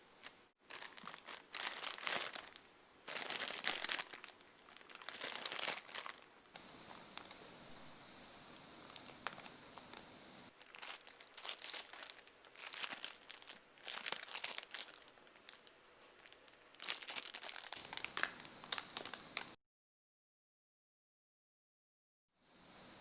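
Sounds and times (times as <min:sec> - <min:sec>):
plastic packaging crackling: 0:00.0 - 0:19.6.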